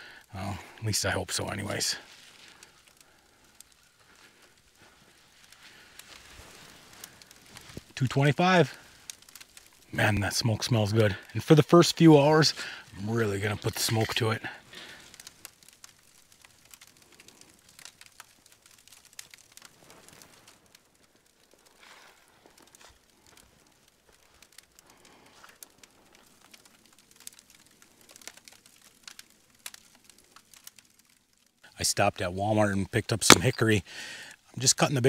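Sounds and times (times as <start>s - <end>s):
charcoal fire crackling: 0.0s - 35.0s.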